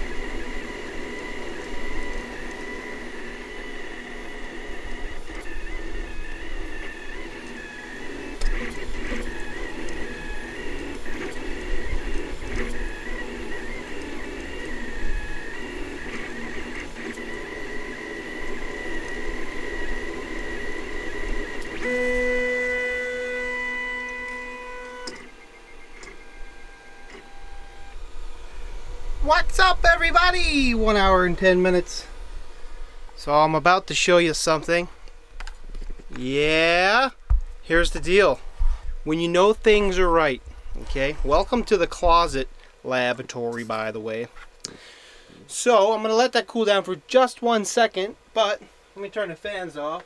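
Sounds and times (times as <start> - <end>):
stepper motors whining: 0.0 - 45.8
quiet hum: 0.0 - 50.0.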